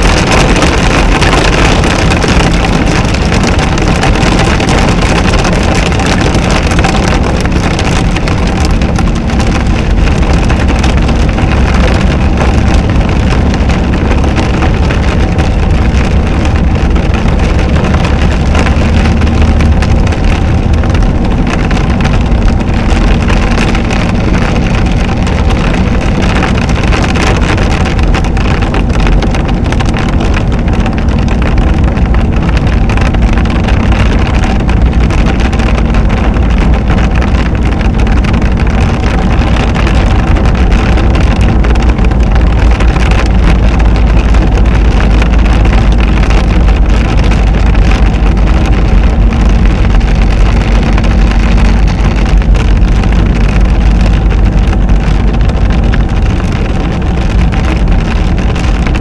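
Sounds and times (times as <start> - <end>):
car engine and tyres on wet road: 0.0 - 59.0
rain hitting car: 0.0 - 59.0.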